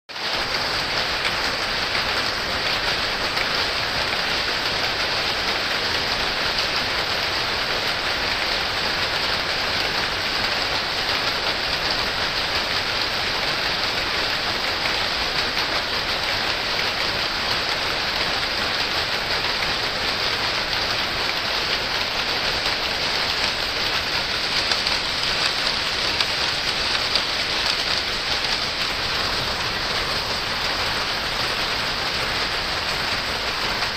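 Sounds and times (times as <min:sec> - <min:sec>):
power looms clattering: 0:00.5 - 0:33.9.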